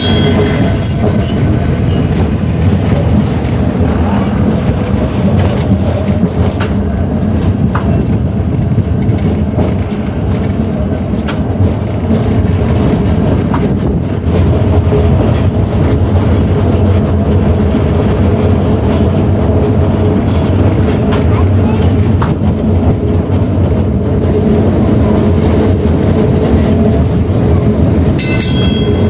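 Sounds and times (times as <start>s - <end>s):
streetcar rumble and motor hum: 0.0s - 29.0s
wheels clicking on rails: 0.0s - 29.0s.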